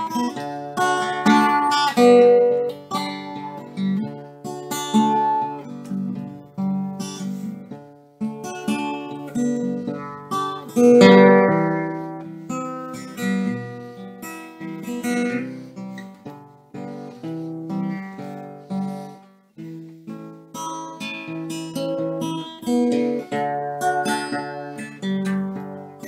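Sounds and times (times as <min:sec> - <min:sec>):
solo acoustic guitar: 0:00.0 - 0:26.0.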